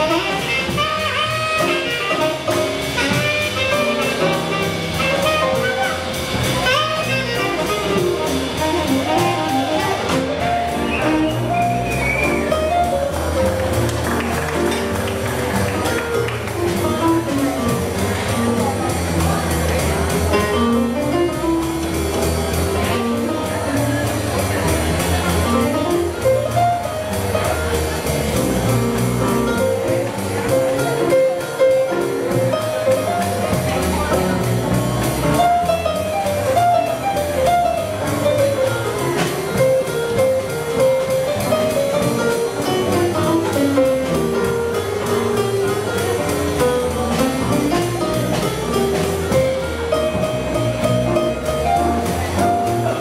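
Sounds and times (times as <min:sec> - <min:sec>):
double bass: 0:00.0 - 0:53.0
electric piano solo: 0:00.0 - 0:53.0.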